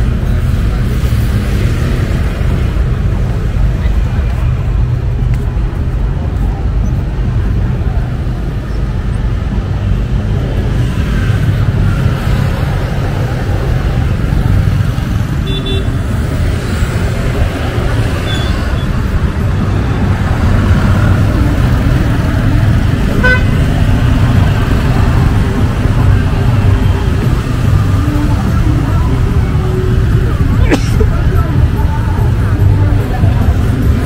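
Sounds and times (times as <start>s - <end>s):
motorbikes and rickshaws rumbling past: 5.7s - 34.0s.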